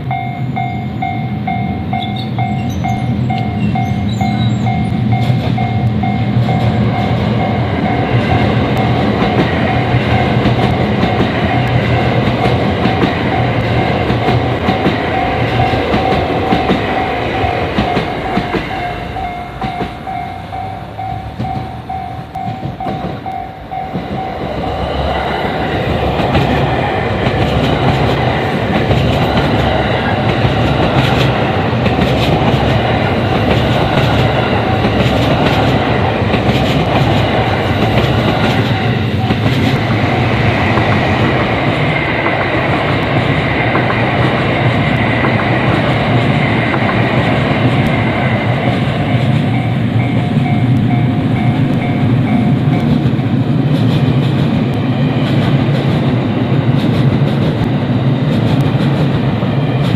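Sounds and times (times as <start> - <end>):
crossing warning bell ringing: 0.0 - 53.6
train wheels clattering on rails: 0.0 - 59.9.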